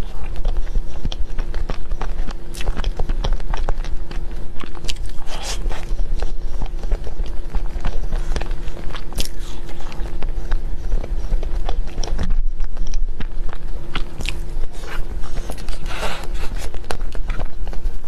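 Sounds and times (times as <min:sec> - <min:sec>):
steady low hum: 0:00.0 - 0:18.0
wet chewing mouth clicks: 0:00.0 - 0:18.0.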